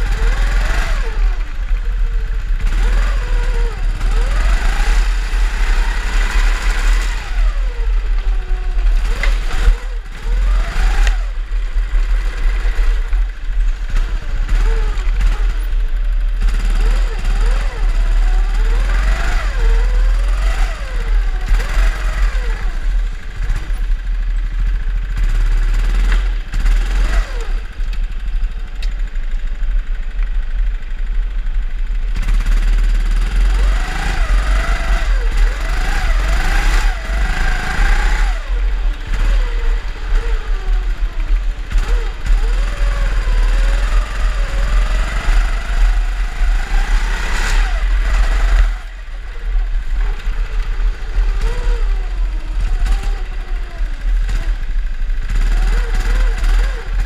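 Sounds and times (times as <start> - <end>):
kart motor revving: 0.0 - 57.0.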